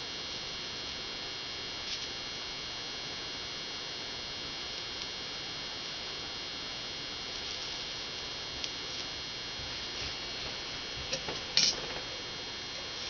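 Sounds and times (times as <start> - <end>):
electrical hum with whine: 0.0 - 13.0.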